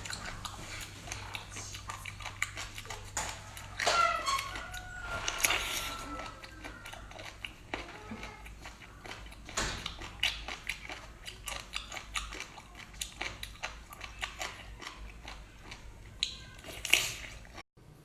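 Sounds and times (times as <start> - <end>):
person chewing food: 0.0 - 17.6.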